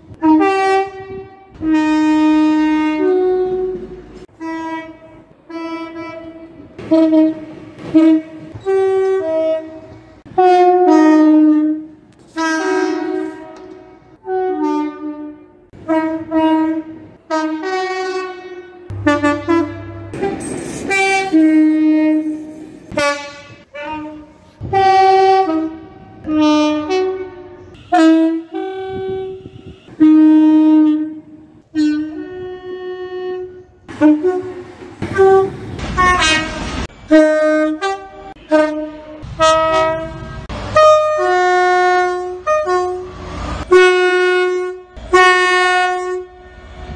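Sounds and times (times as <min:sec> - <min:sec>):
rush of passing train: 0:00.0 - 0:29.8, 0:32.9 - 0:46.9
train horn blasts: 0:00.0 - 0:46.9.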